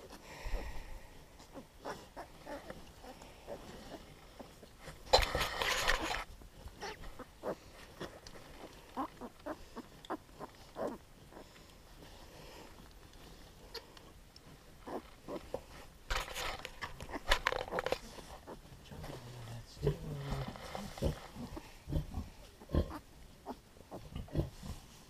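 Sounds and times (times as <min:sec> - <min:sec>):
piglets and sow grunting: 0:00.0 - 0:12.8, 0:13.5 - 0:15.9, 0:16.8 - 0:24.9
rustling of towels and straw: 0:00.0 - 0:25.0.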